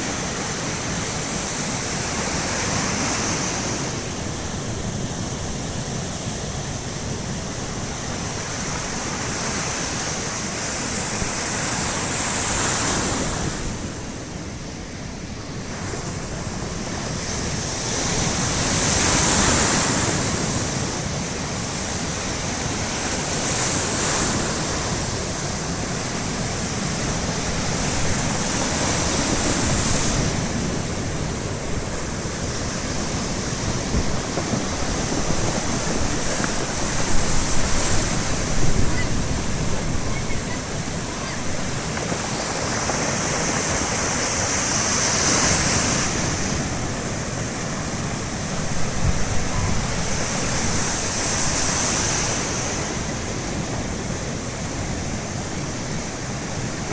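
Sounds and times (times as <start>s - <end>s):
waves breaking on shore: 0.0s - 56.9s
wind rumble on microphone: 0.0s - 56.9s.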